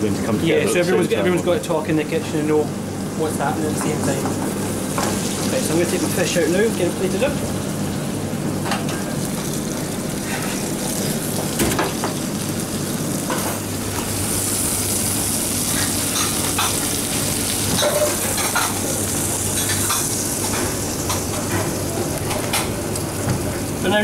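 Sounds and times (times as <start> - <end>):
fish sizzling in a frying pan: 4.0 - 24.0.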